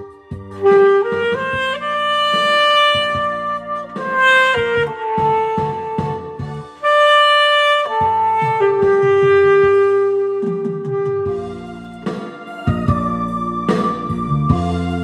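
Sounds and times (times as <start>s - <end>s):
backing track with steady beat: 0.0s - 15.0s
saxophone slow melody: 0.0s - 15.0s.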